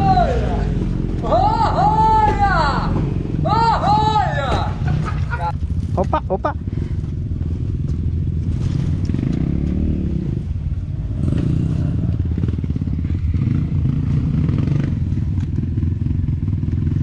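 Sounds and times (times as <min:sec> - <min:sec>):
dirt bike engine revving: 0:00.0 - 0:06.2, 0:08.4 - 0:17.0.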